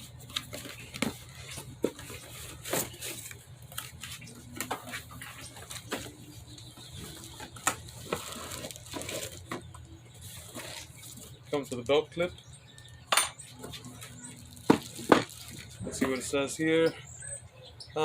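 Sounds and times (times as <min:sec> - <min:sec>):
cardboard and plastic packaging handled: 0:00.0 - 0:11.8, 0:13.6 - 0:16.2.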